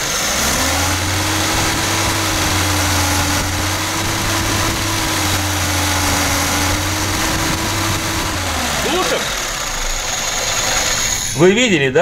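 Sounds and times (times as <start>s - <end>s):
car engine running at raised speed: 0.0s - 11.8s.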